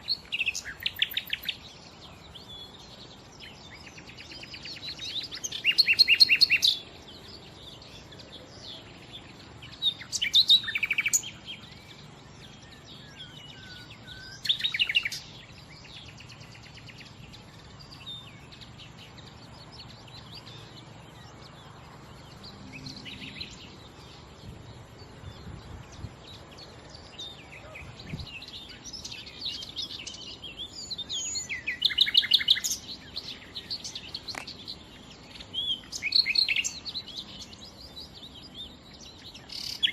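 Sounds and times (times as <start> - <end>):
nightingale singing trills: 0.0 - 39.9.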